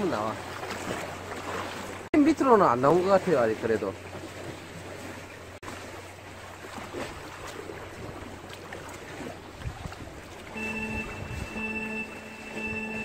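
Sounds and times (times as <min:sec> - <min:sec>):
sea waves: 0:00.0 - 0:13.0
wind: 0:00.0 - 0:13.0.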